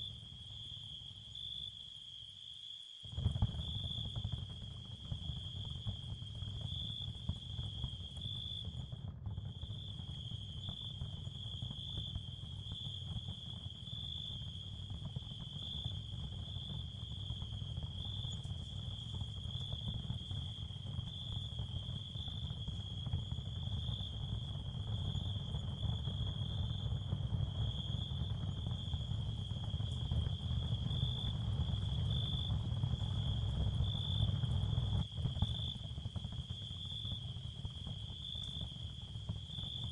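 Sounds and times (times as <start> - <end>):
continuous low rumble: 0.0 - 2.2, 3.1 - 39.9
crickets chirping: 0.0 - 39.9.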